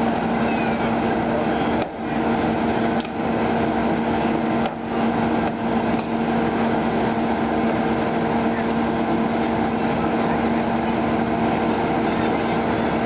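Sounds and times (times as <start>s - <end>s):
hydraulic power unit running: 0.0s - 13.0s.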